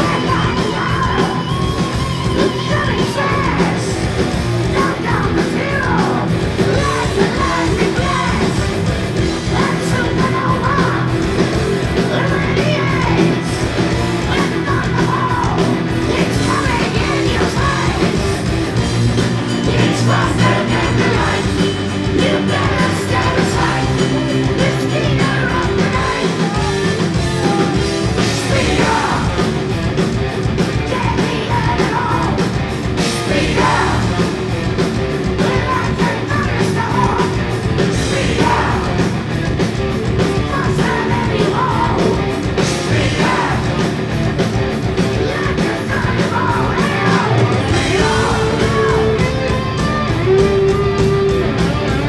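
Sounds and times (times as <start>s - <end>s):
heavy metal band playing: 0.0s - 52.0s
lead vocal singing: 0.0s - 52.0s.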